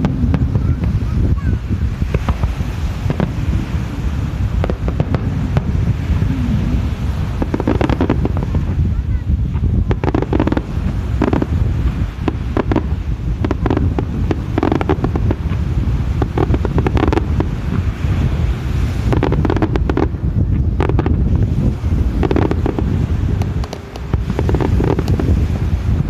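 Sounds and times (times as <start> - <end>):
distant fireworks popping: 0.0 - 26.0
wind buffeting microphone: 0.0 - 26.0.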